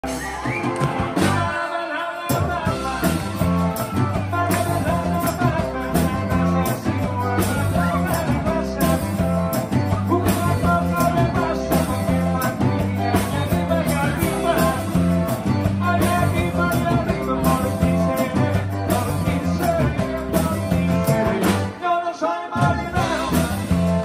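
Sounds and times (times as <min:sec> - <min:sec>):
drums: 0:00.0 - 0:24.0
guitars: 0:00.0 - 0:24.0
live rock band playing: 0:00.0 - 0:24.0
man singing lead vocal: 0:01.0 - 0:24.0.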